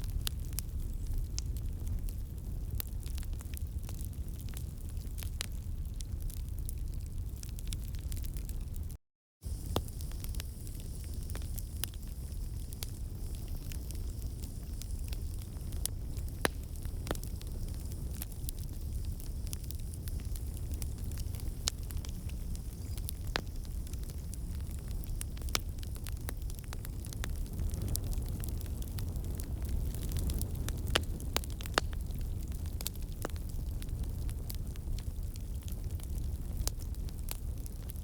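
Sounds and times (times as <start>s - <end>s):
fire crackling in fireplace: 0.0s - 38.0s.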